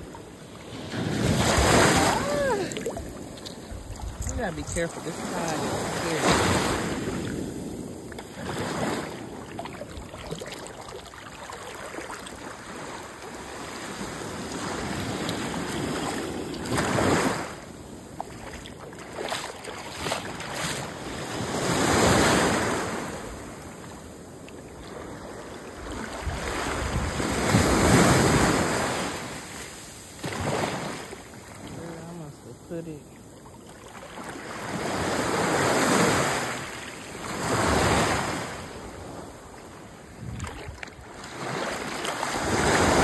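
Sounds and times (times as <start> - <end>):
ocean surf breaking on beach: 0.0 - 24.3, 25.0 - 33.3, 34.1 - 40.3, 40.9 - 43.0.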